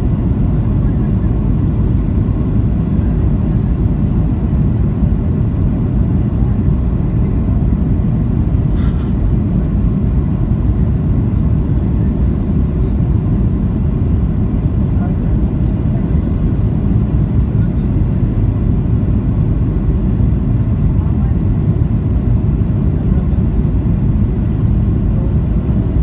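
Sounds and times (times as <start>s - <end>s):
airplane cabin engine rumble: 0.0s - 26.0s.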